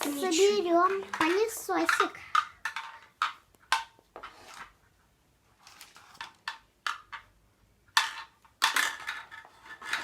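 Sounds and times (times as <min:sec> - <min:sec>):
plastic parts clicking and knocking: 0:00.0 - 0:04.8, 0:05.6 - 0:10.0.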